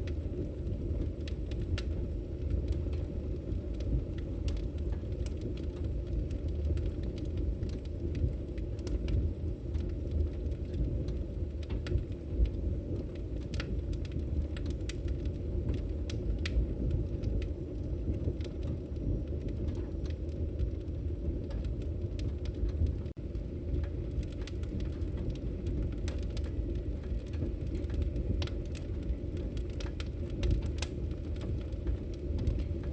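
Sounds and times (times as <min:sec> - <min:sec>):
fire rumbling: 0:00.0 - 0:32.9
wood fire popping and crackling: 0:00.0 - 0:32.9.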